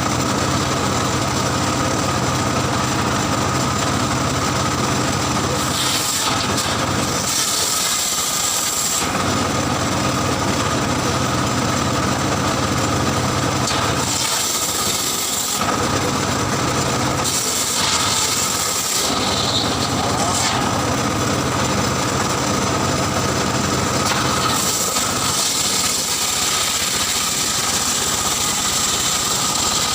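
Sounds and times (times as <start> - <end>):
circular saw cutting wood: 0.0 - 29.9
motor running: 0.0 - 29.9.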